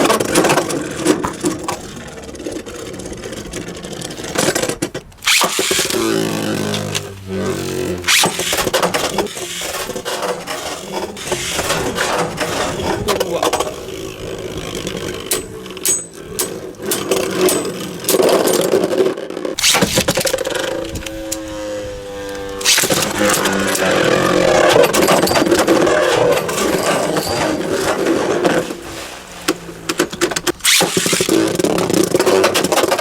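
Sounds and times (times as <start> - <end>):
spinning top whir: 5.2 - 33.0.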